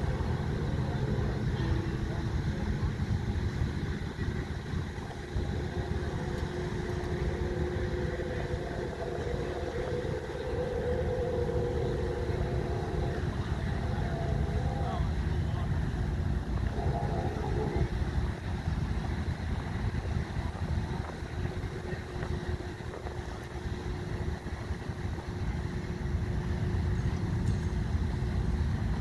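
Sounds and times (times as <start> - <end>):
faint motor hum: 0.0 - 29.0
wind buffeting microphone: 0.0 - 29.0.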